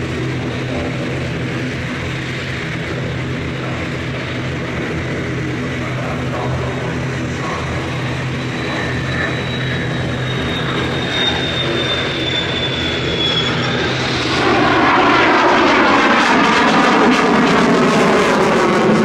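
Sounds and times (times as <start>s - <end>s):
jet engine roar with whine: 0.0s - 19.0s.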